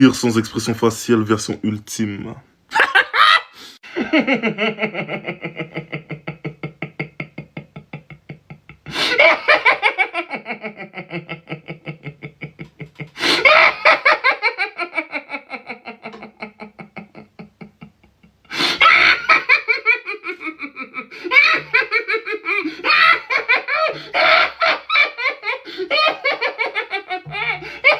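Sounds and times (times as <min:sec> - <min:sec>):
person laughing staccato: 0:04.8 - 0:27.9.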